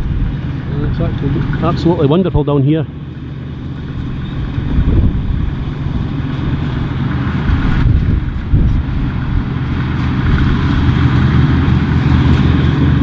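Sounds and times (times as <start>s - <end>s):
wind on microphone: 0.0s - 1.9s, 3.7s - 13.0s
combine harvester engine humming: 0.0s - 13.0s.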